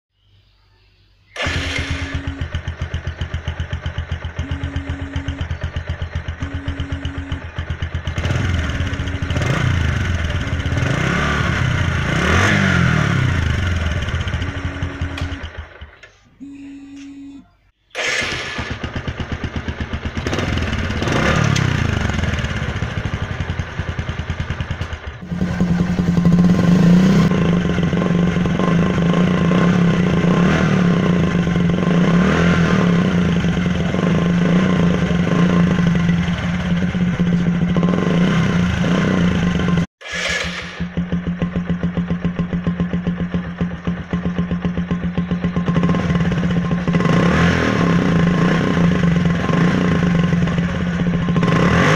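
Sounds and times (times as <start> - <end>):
motorcycle engine revving: 1.4 - 51.9.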